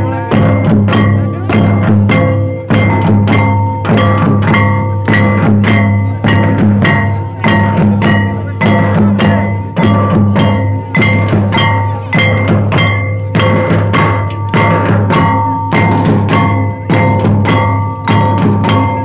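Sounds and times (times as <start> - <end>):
drums beating steady rhythm: 0.0 - 19.0.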